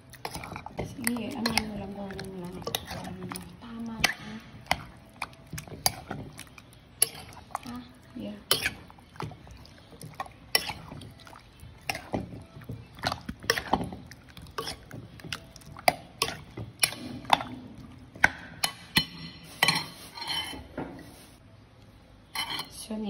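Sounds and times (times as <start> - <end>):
wet squelching of mixing chicken: 0.0 - 18.8.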